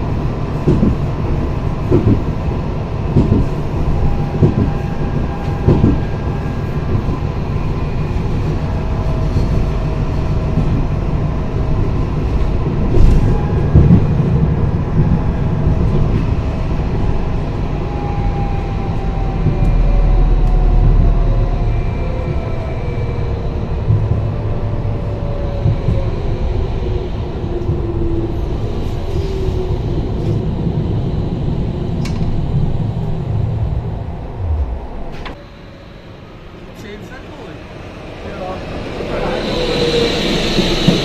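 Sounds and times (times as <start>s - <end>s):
tram wheels rumbling on rails: 0.0s - 41.0s.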